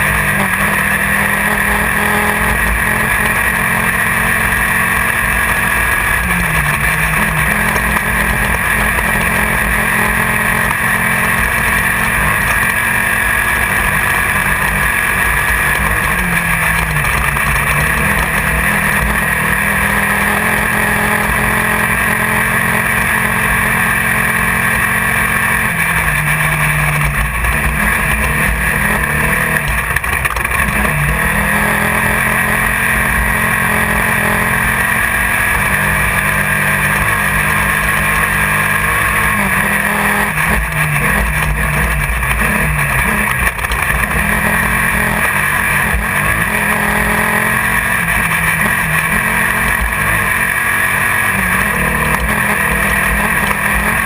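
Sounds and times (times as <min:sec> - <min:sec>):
race car engine: 0:00.0 - 0:54.0
rattling road noise: 0:00.0 - 0:54.0.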